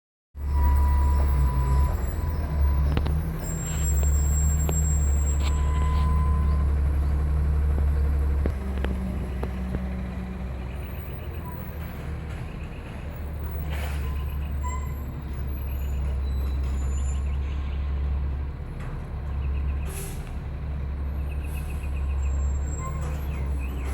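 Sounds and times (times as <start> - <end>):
diesel truck engine drone: 0.4 - 23.9.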